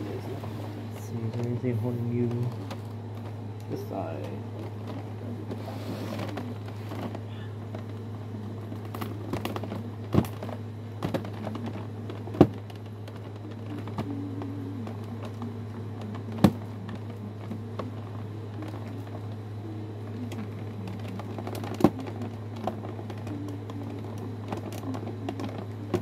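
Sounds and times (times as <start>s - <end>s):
plastic and cardboard rustling: 0.0s - 26.0s
steady low hum: 0.0s - 26.0s.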